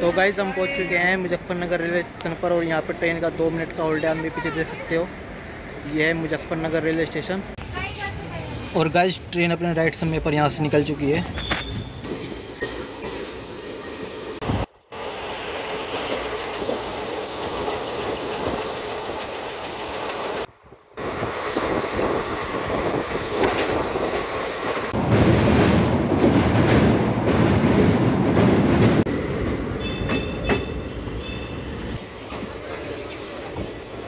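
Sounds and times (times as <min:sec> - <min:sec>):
train running noise: 0:00.0 - 0:34.0.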